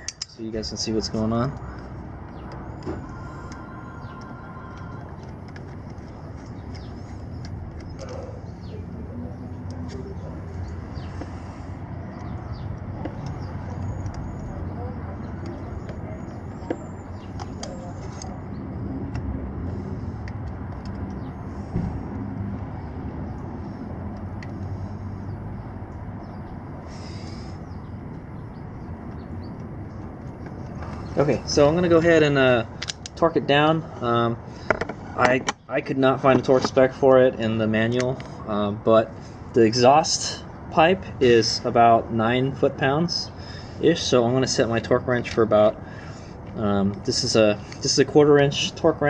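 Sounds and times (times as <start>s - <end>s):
birds chirping: 0.0s - 47.8s.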